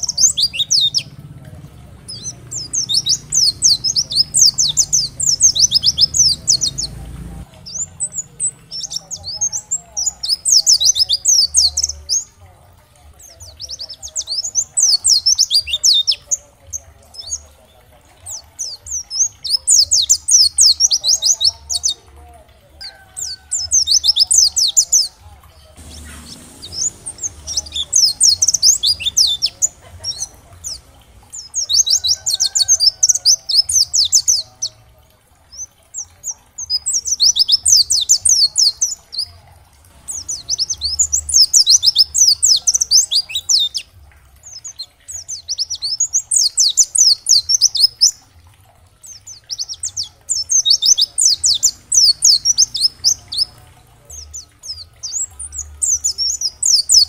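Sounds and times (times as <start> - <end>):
bird twittering song: 0.0 - 57.0.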